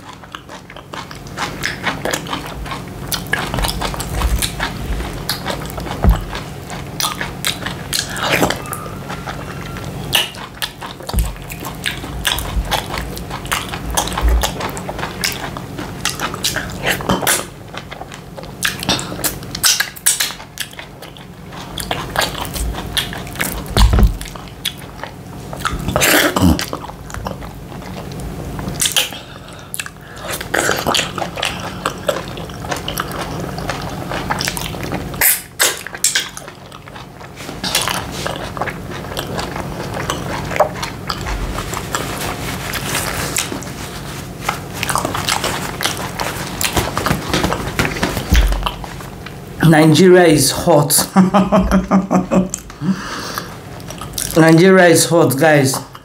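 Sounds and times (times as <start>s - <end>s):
person chewing and mouth smacks: 0.0s - 50.1s, 52.4s - 54.5s.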